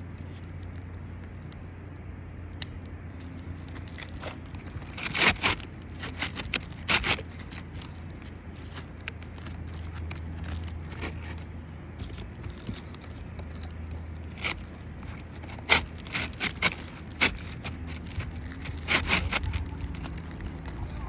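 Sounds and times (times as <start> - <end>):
low steady hum: 0.0 - 21.0
scraping on roof shingles: 3.8 - 21.0.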